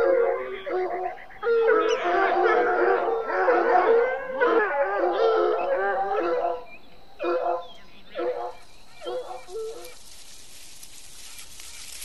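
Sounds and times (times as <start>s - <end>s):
dogs howling and yipping: 0.0s - 10.0s.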